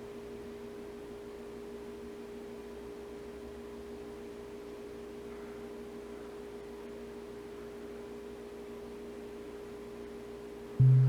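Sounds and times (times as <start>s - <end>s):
steady hum with faint hiss: 0.0s - 11.0s.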